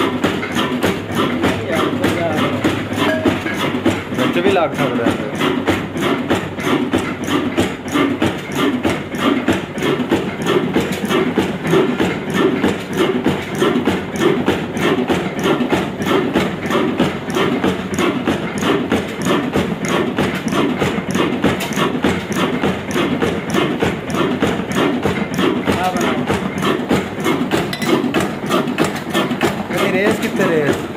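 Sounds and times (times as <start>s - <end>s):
diesel engine exhaust beating: 0.0s - 30.9s.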